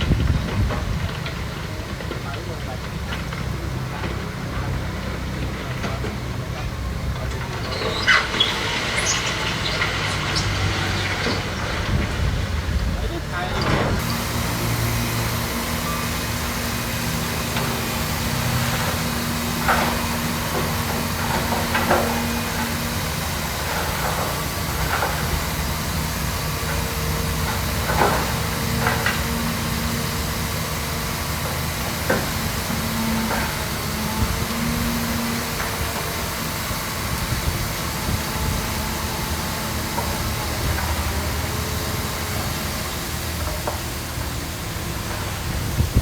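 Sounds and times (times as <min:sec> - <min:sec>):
heavy diesel machinery running: 0:00.0 - 0:46.0.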